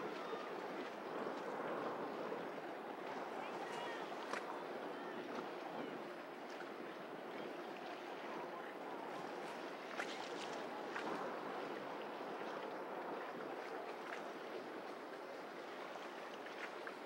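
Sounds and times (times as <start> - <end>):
wash of open water: 0.0 - 17.0.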